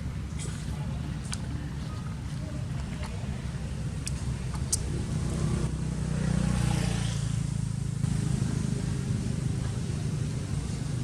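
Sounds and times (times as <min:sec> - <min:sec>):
low engine drone: 0:00.0 - 0:06.3, 0:07.2 - 0:11.0.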